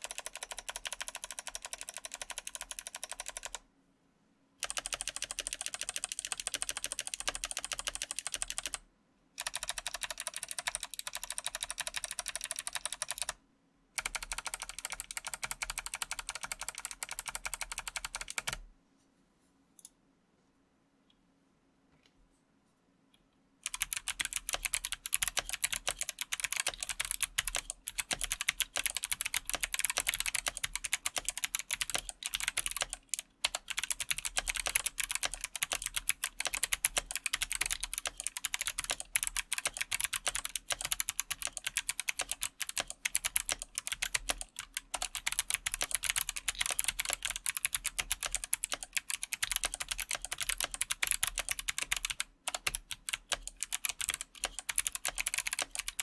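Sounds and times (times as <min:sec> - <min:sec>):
mechanical keyboard typing: 0:00.0 - 0:03.6, 0:04.6 - 0:08.8, 0:09.4 - 0:13.4, 0:14.0 - 0:18.6, 0:23.6 - 0:56.0.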